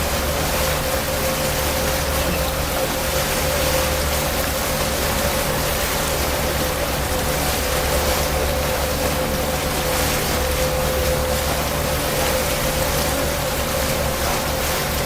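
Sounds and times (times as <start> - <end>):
boat engine hum: 0.0 - 15.0
rushing water: 0.0 - 15.0
wind: 0.0 - 15.0.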